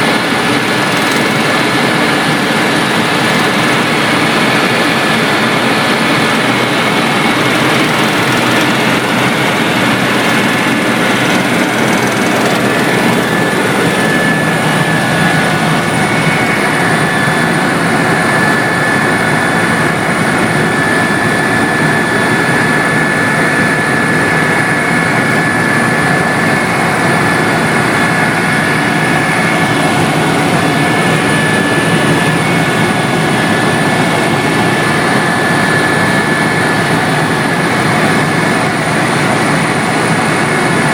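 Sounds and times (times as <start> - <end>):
helicopter engine and rotor: 0.0 - 40.9
thin high whine: 0.0 - 40.9.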